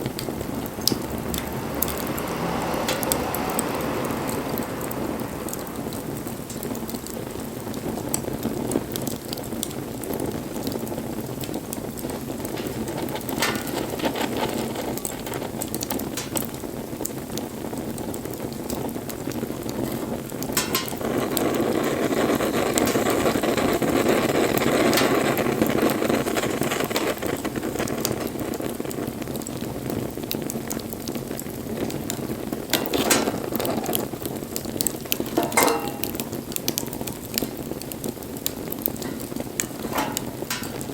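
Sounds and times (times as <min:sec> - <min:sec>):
fire popping: 0:00.0 - 0:40.9
wood bonfire crackling: 0:00.0 - 0:40.9.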